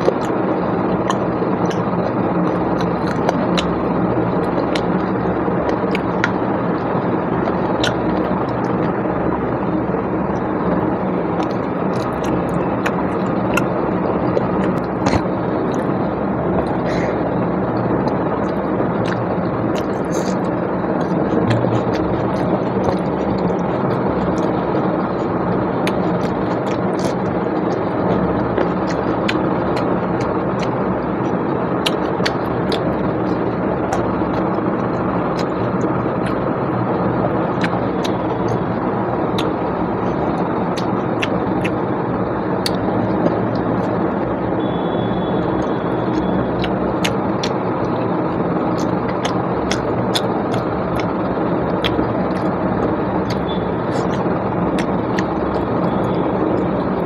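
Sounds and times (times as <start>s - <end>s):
eating by hand clicks and smacks: 0.0s - 9.6s, 10.3s - 17.2s, 18.0s - 36.5s, 37.5s - 38.7s, 39.3s - 41.8s, 42.6s - 44.0s, 45.4s - 57.0s
steady rushing noise: 0.0s - 57.0s.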